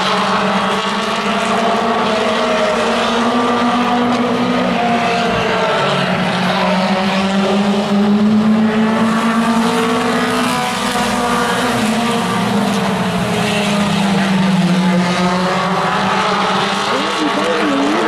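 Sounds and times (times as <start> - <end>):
race car engines racing: 0.0 - 18.0.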